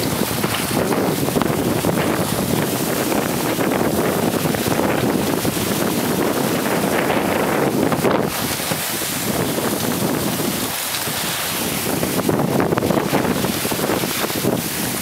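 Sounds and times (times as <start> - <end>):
water rushing along hulls: 0.0 - 15.0
wind buffeting microphone: 0.0 - 15.0.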